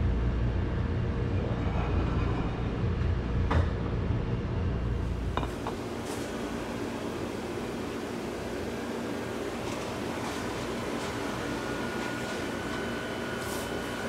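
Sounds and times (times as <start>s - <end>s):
restaurant kitchen rumble: 0.0s - 14.0s.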